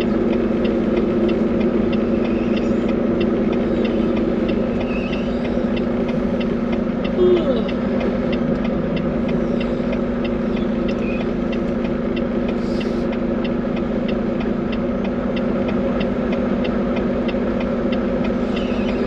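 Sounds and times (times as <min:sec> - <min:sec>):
diesel truck engine running: 0:00.0 - 0:19.0
faint regular ticking: 0:00.0 - 0:19.0.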